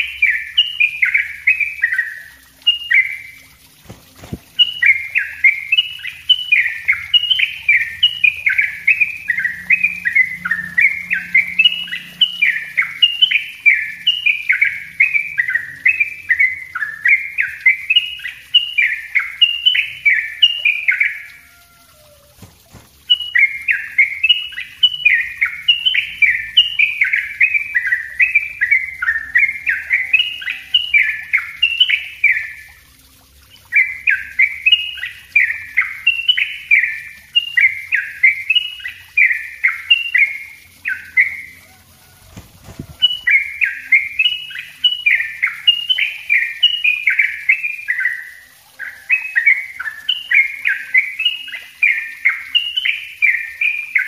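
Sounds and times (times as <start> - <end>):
bulbul singing rapid song: 0.0 - 54.0.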